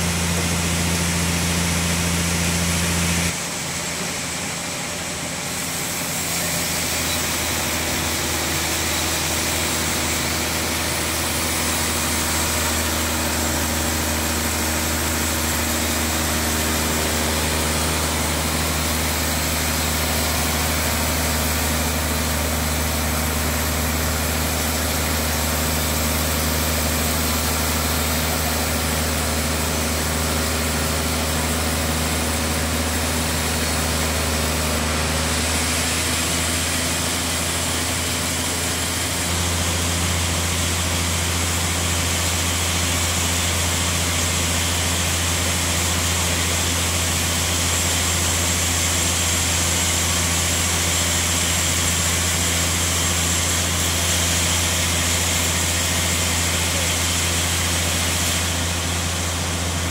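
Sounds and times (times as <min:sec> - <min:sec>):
bandsaw low hum: 0:00.0 - 0:59.9.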